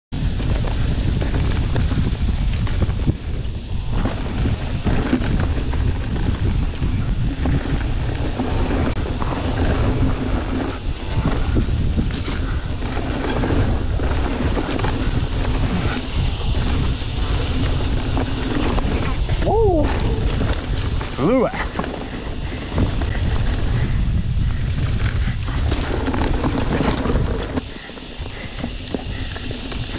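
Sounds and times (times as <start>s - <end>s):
bike rattling and knocking: 0.1s - 29.9s
bike tyres rolling on dirt: 0.1s - 29.9s
wind rumbling on microphone: 0.1s - 29.9s.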